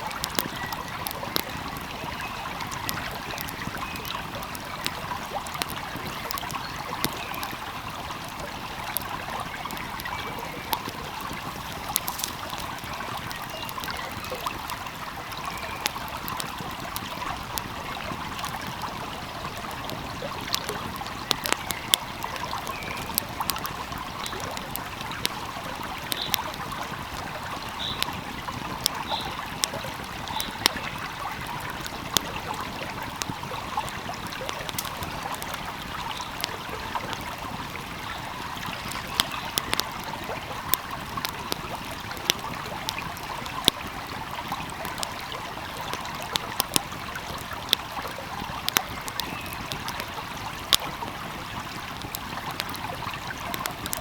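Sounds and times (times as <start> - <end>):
stream flowing: 0.0 - 54.0
wood fire crackling: 0.0 - 54.0.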